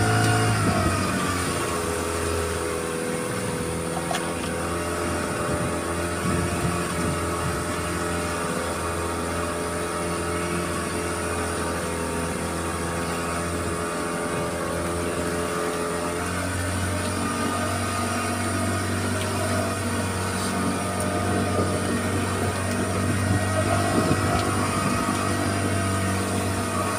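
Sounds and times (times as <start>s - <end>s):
outboard motor running: 0.0s - 26.9s.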